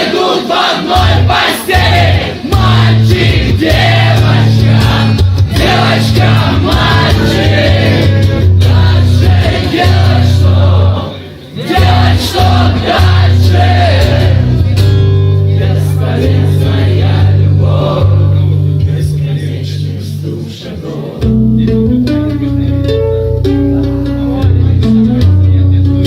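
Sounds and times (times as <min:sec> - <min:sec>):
crowd singing along: 0:00.0 - 0:21.9
acoustic guitar: 0:00.9 - 0:26.0
low bass: 0:01.0 - 0:11.0, 0:11.8 - 0:20.4, 0:21.2 - 0:26.0.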